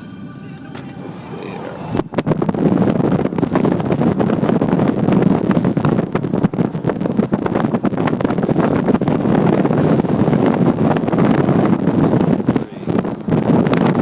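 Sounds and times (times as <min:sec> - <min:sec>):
loud rushing noise: 0:00.0 - 0:14.0
wind buffeting microphone: 0:00.5 - 0:14.0.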